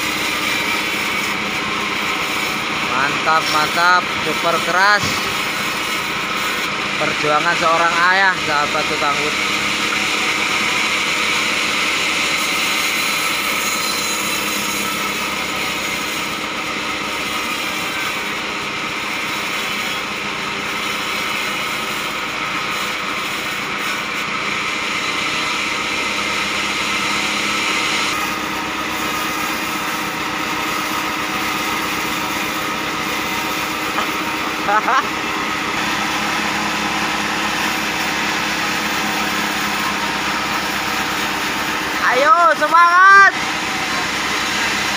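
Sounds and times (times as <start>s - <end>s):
band saw humming: 0.0s - 44.9s
saw cutting wood hiss: 0.0s - 44.9s.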